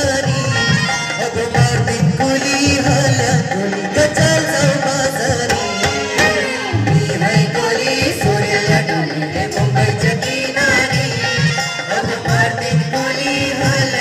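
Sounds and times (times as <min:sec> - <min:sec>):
folk song singing: 0:00.0 - 0:14.0.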